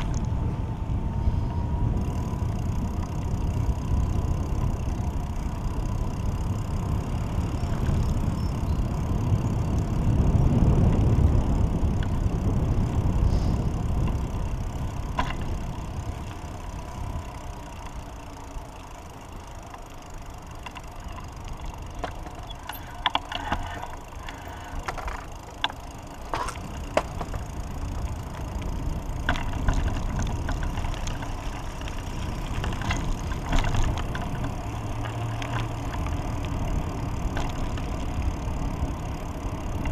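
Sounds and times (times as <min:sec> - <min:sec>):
low rumble of bicycle ride: 0:00.0 - 0:39.9
sharp clicks and rattles: 0:02.1 - 0:39.9.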